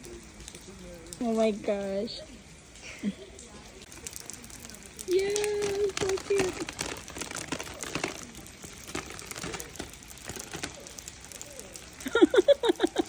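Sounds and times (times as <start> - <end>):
faint voices: 0.0 - 13.0
rain on an umbrella: 0.0 - 13.0.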